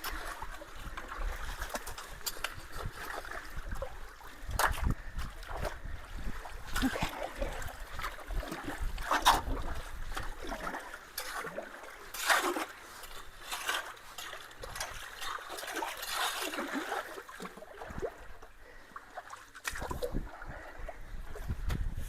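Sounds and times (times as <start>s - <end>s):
creek water splashing and trickling: 0.0s - 22.0s.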